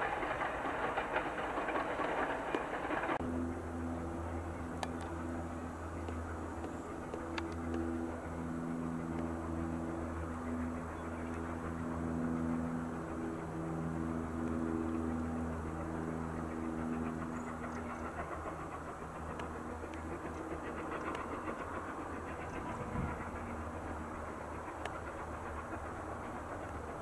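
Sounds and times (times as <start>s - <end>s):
distant steam locomotive chuffing: 0.0s - 27.0s
steady low hum: 0.0s - 27.0s.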